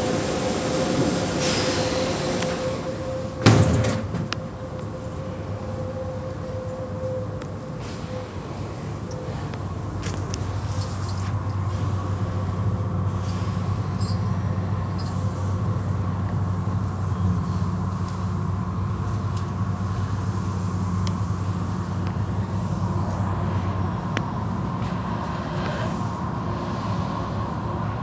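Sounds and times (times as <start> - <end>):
wash motors humming: 0.0 - 28.0.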